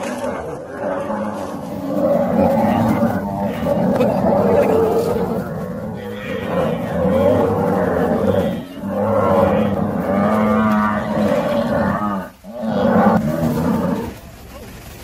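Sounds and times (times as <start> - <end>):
buffalo bellowing: 0.0 - 14.4.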